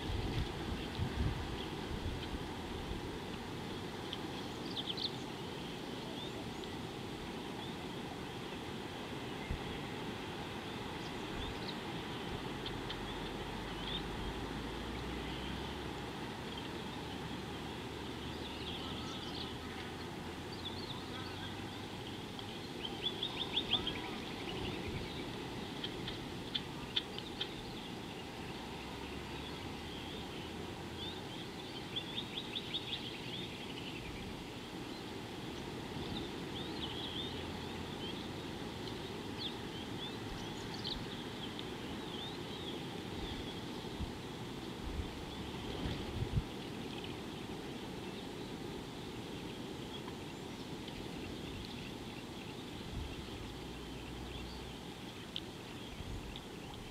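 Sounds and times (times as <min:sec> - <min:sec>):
low outdoor background noise: 0:00.0 - 0:56.9
birds chirping: 0:04.0 - 0:56.9.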